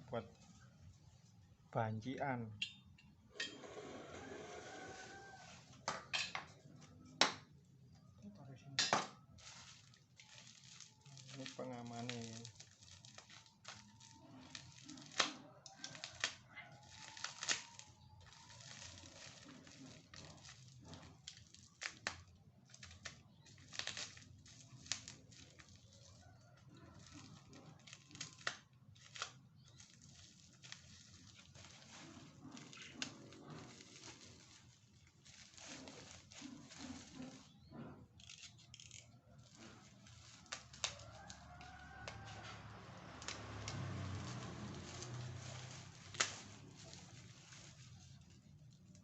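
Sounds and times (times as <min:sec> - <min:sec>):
plastic rustling and crinkling: 0:00.0 - 0:02.1, 0:04.5 - 0:49.0.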